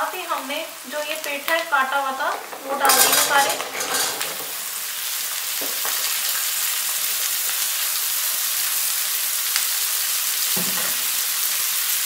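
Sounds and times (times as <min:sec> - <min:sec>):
pumpkin sizzling in oil: 0:00.0 - 0:12.0.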